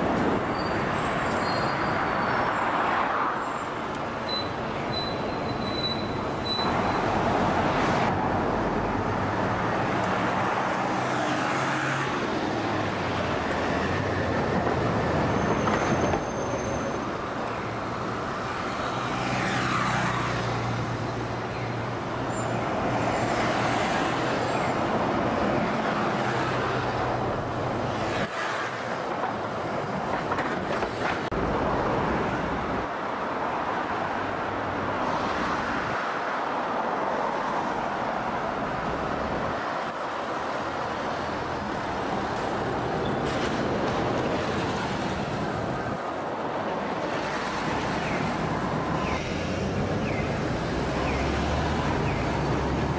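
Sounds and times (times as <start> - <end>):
cars and buses passing: 0.0 - 52.9.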